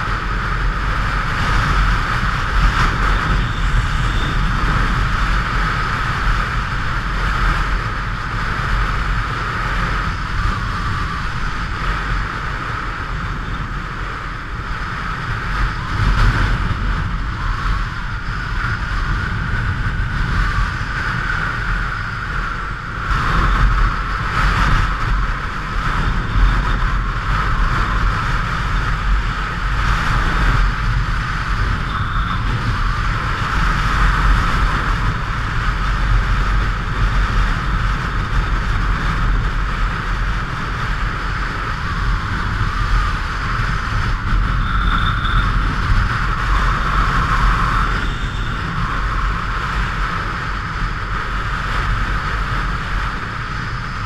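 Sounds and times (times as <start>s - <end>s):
motorcycle running: 0.0s - 54.0s
wind rushing over microphone: 0.0s - 54.0s.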